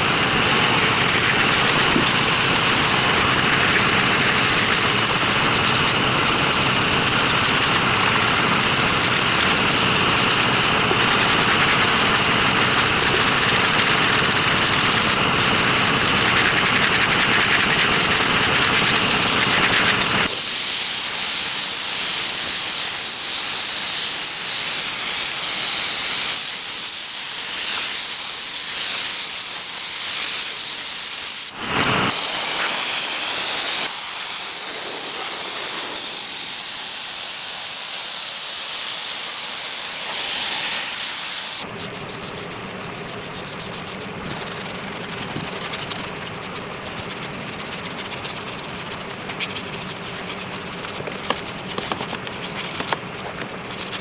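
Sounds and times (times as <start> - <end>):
spray hissing: 0.0 - 54.0.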